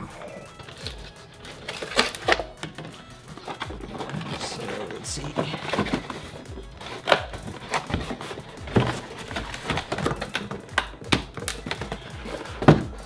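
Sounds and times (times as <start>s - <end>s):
cardboard packaging being opened: 0.0s - 13.0s.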